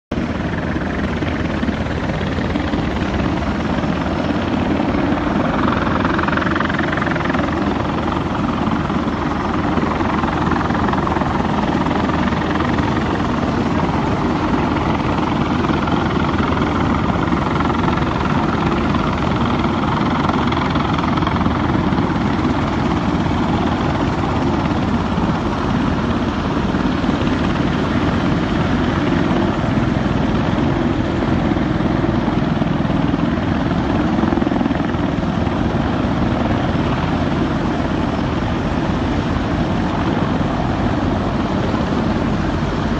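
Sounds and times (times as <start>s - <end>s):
aircraft roar: 0.1s - 42.9s.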